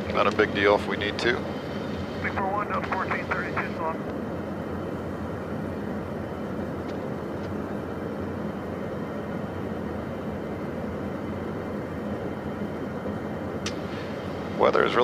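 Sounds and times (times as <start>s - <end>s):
jet cabin engine rush and hum: 0.0s - 15.0s.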